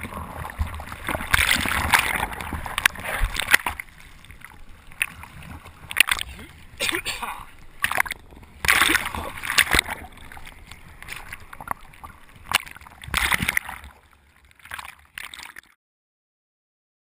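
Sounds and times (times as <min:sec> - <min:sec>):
seawater splashing: 0:00.0 - 0:15.7.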